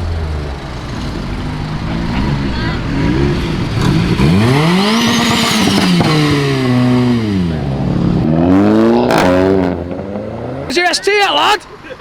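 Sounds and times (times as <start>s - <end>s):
car engine revving hard: 0.0s - 10.7s.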